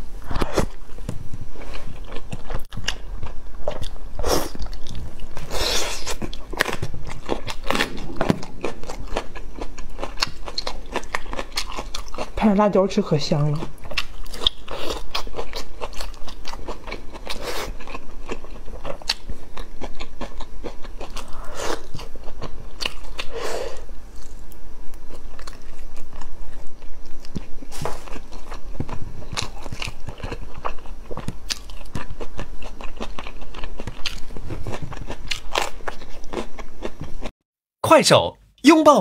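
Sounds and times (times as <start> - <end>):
person chewing wetly: 1.6 - 12.4, 13.6 - 23.4, 25.1 - 37.3.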